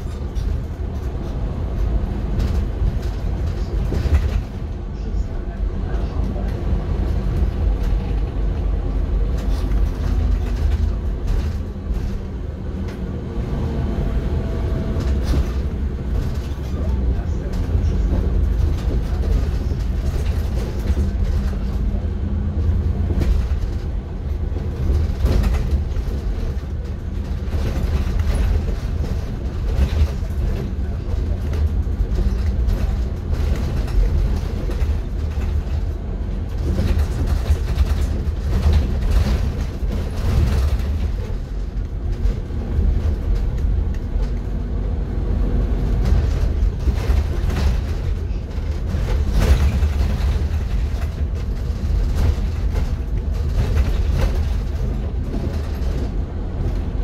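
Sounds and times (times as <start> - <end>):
rattles and knocks: 0.0 - 4.7, 6.2 - 13.0, 14.8 - 44.5, 45.7 - 57.0
bus engine and road rumble: 0.0 - 57.0.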